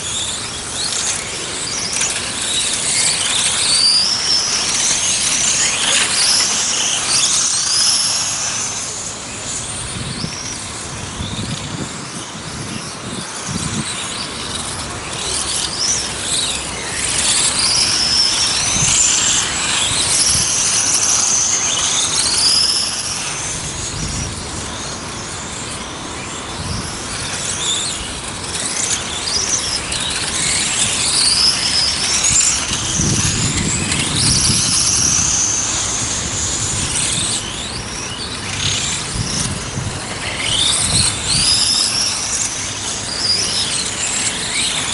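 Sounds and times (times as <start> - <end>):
rc race cars whining: 0.0 - 44.9.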